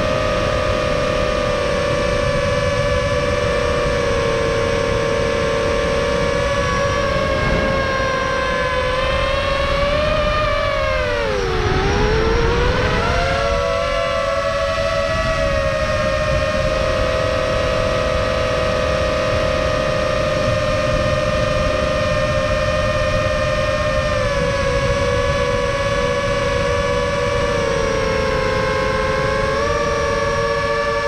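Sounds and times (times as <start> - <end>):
drone motors whining: 0.0 - 31.0
low rushing noise: 1.9 - 31.0.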